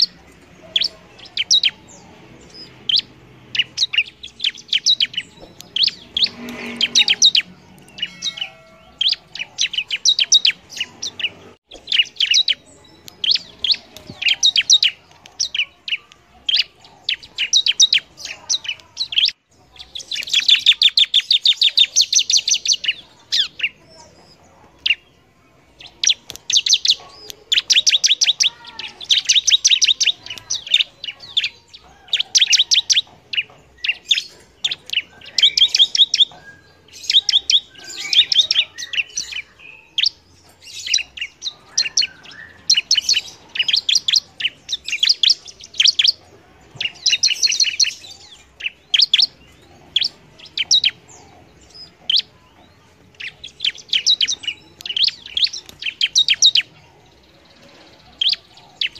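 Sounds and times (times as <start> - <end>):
bird singing chattering notes: 0.0 - 58.9.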